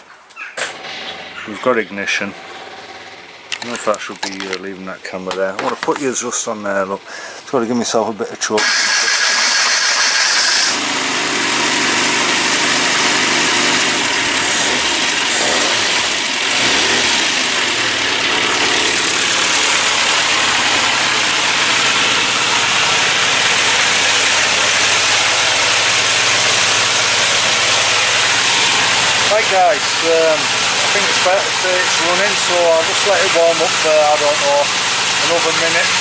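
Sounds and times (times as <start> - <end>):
car engine idling fast: 0.7 - 36.0.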